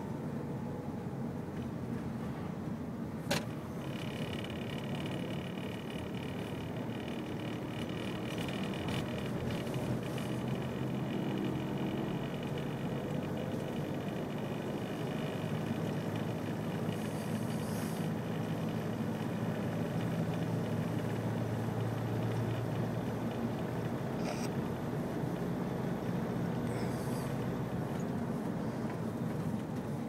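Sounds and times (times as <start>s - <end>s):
car engine hum and road rumble: 0.0s - 30.0s.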